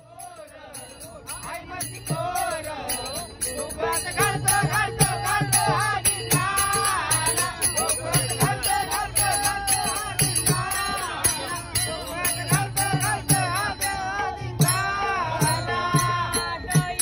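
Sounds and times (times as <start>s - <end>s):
hand cymbals struck in a beat: 0.0s - 17.0s
men singing together: 0.0s - 17.0s.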